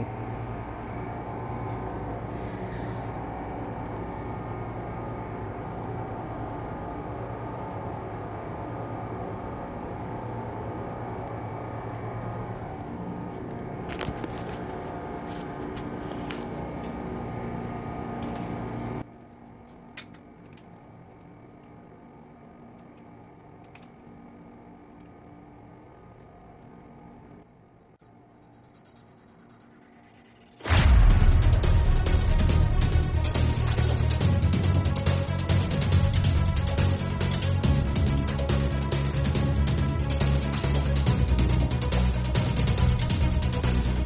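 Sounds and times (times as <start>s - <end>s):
mechanical hum: 0.0s - 44.0s.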